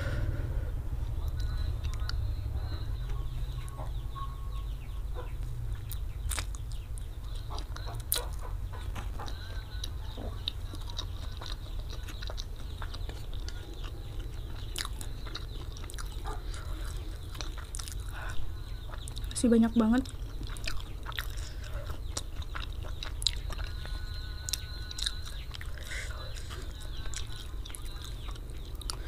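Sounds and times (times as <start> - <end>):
steady low hum: 0.0 - 29.0
chewing noodles: 5.2 - 29.0.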